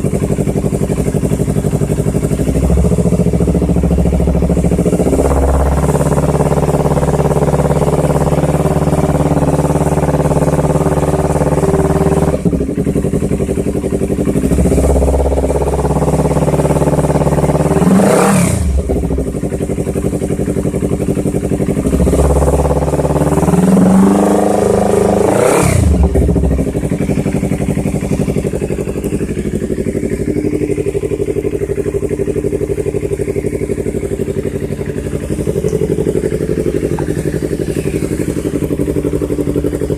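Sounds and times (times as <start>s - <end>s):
engine throttle blips: 0.0s - 39.9s
motorcycle engine idling: 0.0s - 39.9s.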